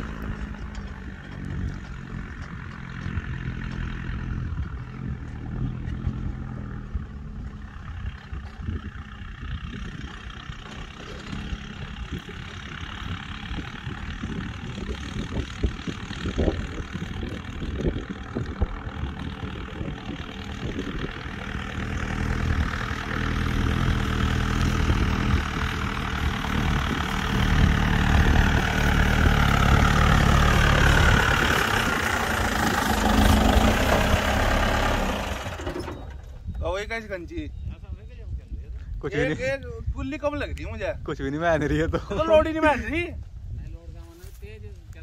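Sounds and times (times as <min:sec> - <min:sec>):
jeep engine running: 0:00.0 - 0:38.1.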